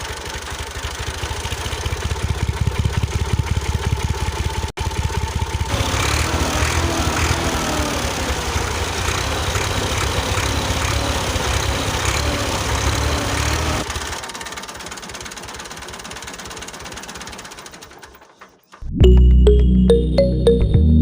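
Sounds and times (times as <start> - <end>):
small tractor motor rattling: 0.0 - 18.8.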